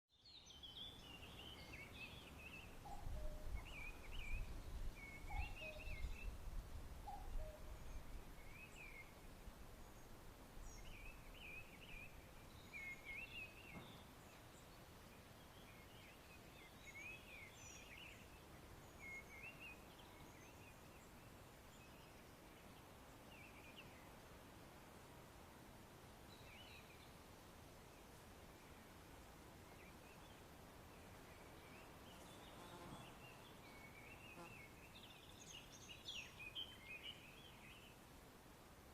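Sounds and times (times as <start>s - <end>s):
forest birds singing: 0.1s - 24.6s, 26.2s - 38.2s.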